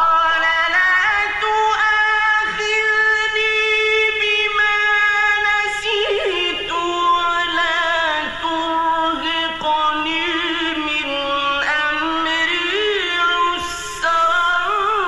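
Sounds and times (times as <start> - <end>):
man reciting in melodic chant: 0.0 - 15.0.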